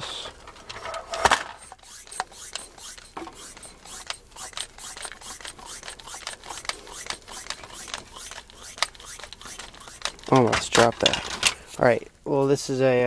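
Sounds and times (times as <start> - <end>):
plastic rubbing and scraping: 0.0 - 11.9
plastic parts clicking: 0.3 - 11.8.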